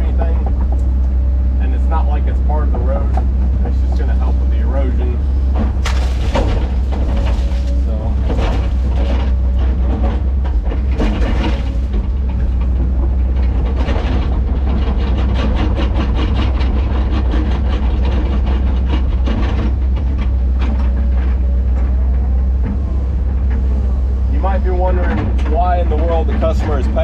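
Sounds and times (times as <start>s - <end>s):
diesel engine droning: 0.0s - 27.0s
steel tracks clanking: 0.0s - 27.0s.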